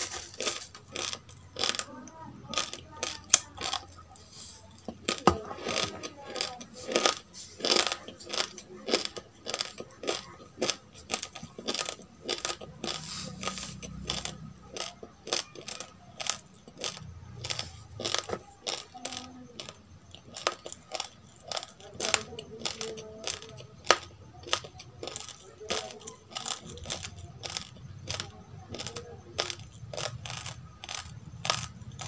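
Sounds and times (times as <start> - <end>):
chewing crunchy rice: 0.0 - 32.0.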